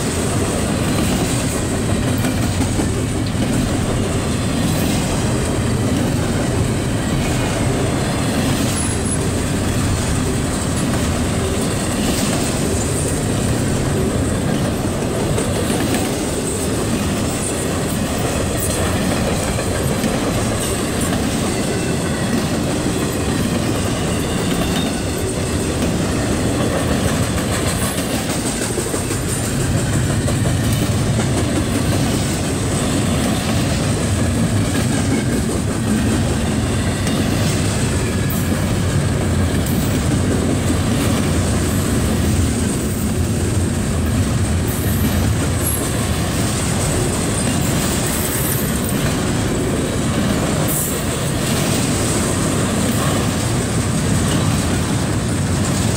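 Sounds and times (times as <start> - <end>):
freight train rumble: 0.0 - 55.9
wheels clacking over rail joints: 0.0 - 55.9.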